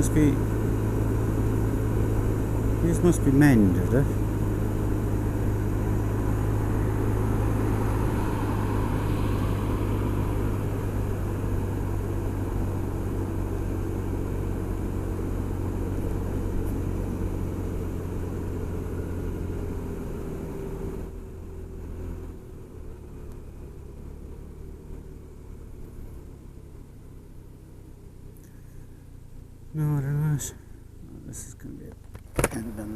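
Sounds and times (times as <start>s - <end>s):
scooter engine running: 0.0s - 29.8s
road noise: 0.0s - 32.9s.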